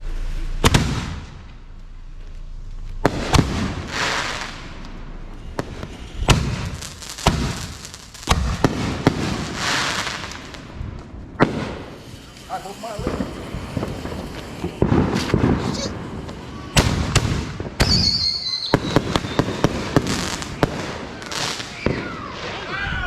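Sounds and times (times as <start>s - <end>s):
fireworks bangs: 0.0s - 23.0s
fireworks crackling hiss: 0.0s - 23.0s.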